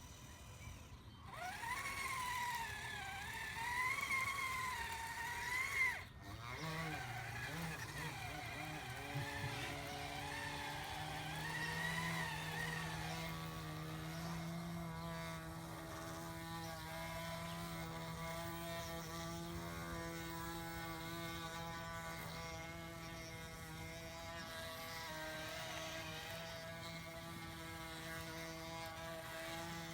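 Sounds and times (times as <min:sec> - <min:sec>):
model machine motor and gear whine: 0:00.0 - 0:29.9.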